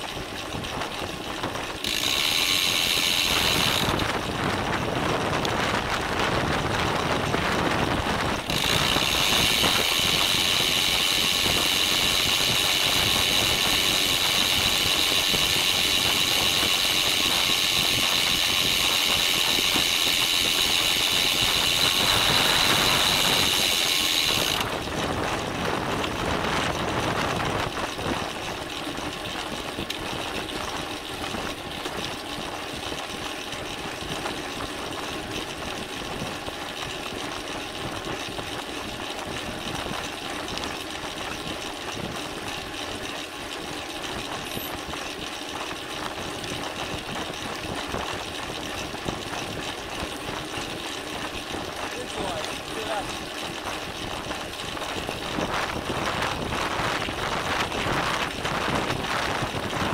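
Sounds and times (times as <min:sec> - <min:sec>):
bicycle rattling: 0:00.0 - 0:59.9.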